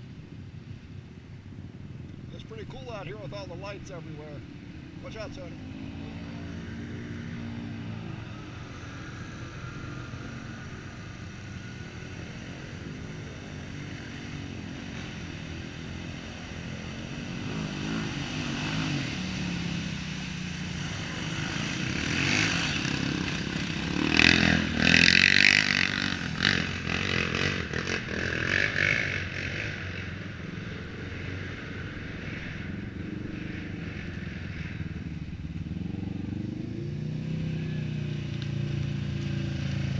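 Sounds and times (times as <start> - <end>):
atv engines running: 0.0 - 39.9.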